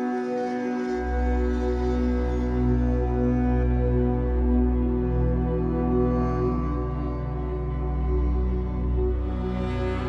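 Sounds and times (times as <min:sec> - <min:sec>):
slow ambient music: 0:00.0 - 0:10.0.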